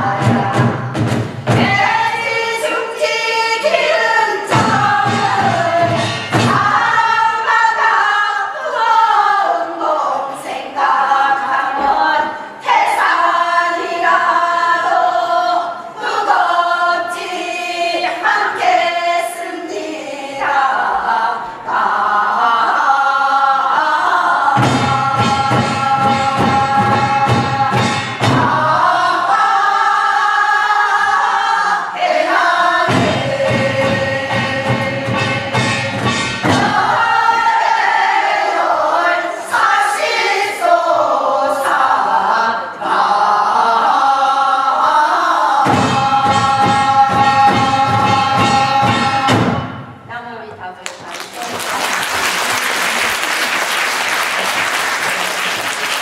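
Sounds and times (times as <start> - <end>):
group singing fast folk song: 0.0 - 49.8.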